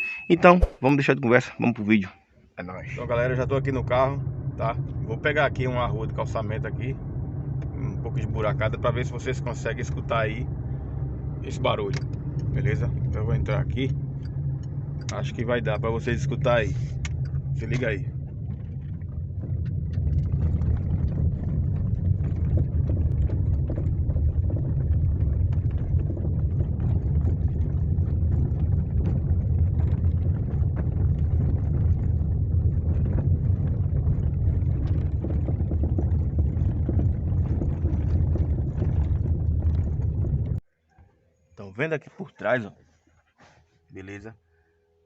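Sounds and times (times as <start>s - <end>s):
road and tyre rumble: 2.8s - 40.6s
suspension knocking: 3.0s - 40.6s.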